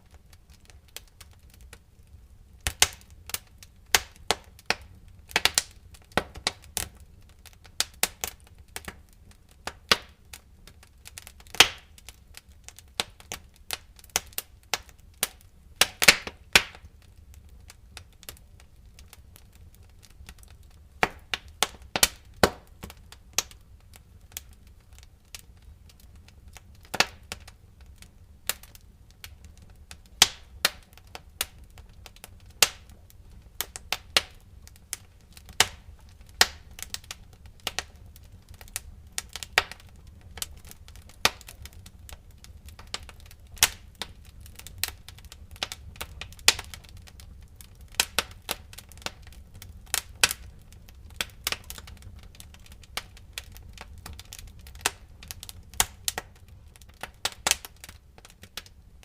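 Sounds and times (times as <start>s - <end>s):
fire pops and snaps: 0.0s - 59.0s
wood fire crackling: 0.0s - 59.0s.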